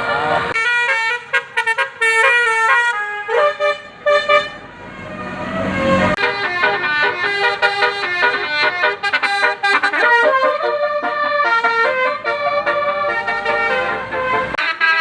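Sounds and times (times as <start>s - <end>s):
bus musical air horn melody: 0.0s - 15.0s.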